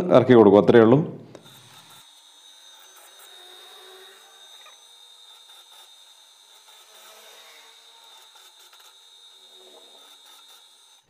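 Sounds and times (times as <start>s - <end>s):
drill press whining: 1.2s - 11.0s.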